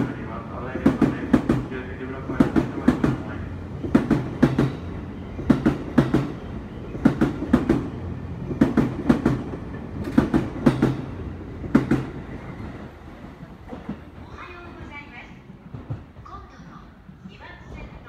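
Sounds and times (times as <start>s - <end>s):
train wheels clicking over rail joints: 0.0s - 16.5s.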